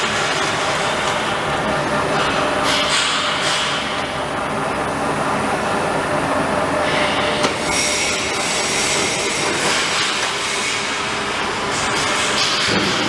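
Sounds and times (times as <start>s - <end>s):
roll-forming machine grinding and squealing: 0.0s - 4.6s, 6.4s - 13.0s.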